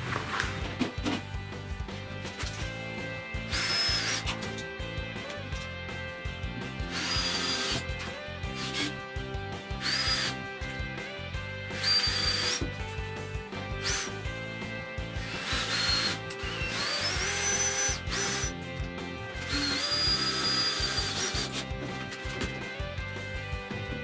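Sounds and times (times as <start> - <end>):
background music: 0.0 - 24.0
power drill whining: 2.3 - 23.6.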